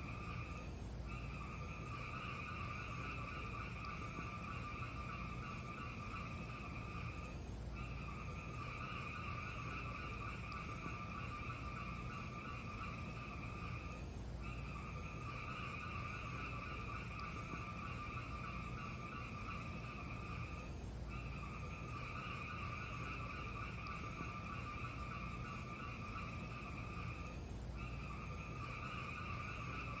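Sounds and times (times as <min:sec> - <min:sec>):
fire crackling: 0:00.0 - 0:30.0.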